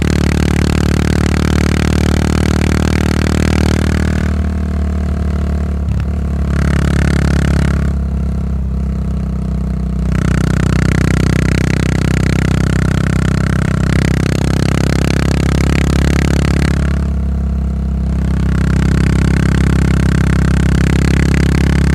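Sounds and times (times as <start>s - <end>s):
motorcycle engine exhaust while riding: 0.0s - 21.9s.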